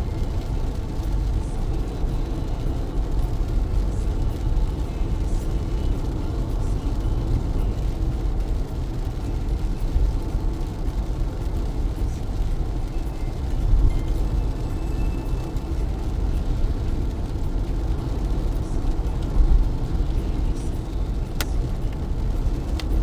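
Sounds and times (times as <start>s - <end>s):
car engine and tyres on wet road: 0.0s - 23.0s
rain ticking on car: 0.0s - 23.0s.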